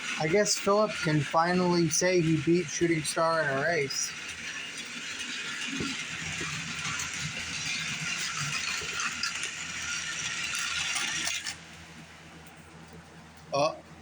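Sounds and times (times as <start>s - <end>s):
toy train motors whirring: 0.0s - 11.9s.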